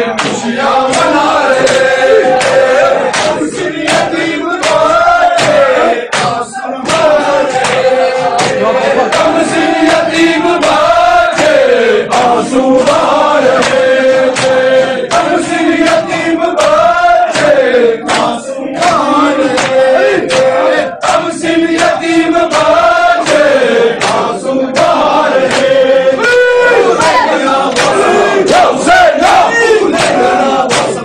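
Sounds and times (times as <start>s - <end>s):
men chanting a lament: 0.0s - 31.0s.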